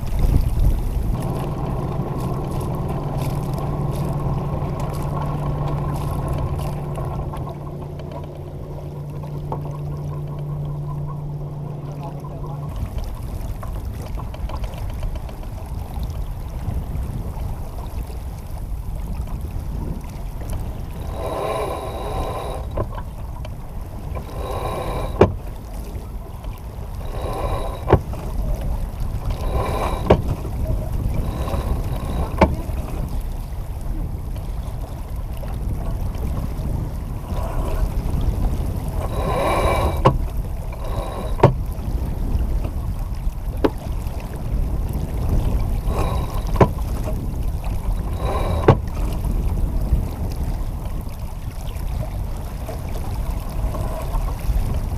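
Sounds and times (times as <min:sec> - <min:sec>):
water rushing along hull: 0:00.0 - 0:54.9
wind on microphone: 0:00.0 - 0:54.9.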